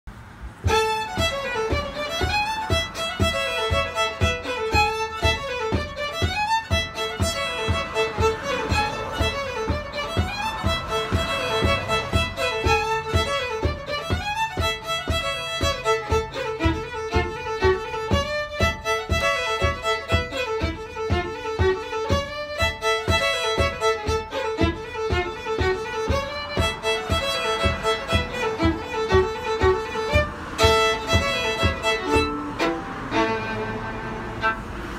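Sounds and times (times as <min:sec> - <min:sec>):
solo fiddle playing a fast reel: 0:00.1 - 0:34.9.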